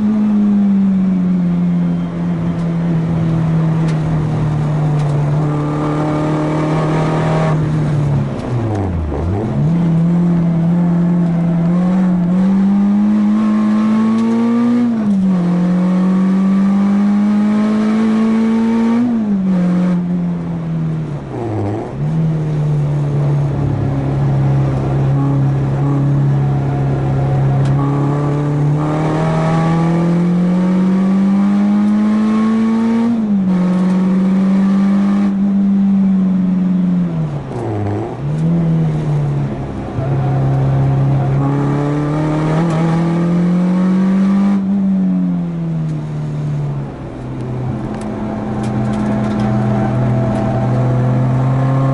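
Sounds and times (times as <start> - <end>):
car engine accelerating hard: 0.0 - 51.9.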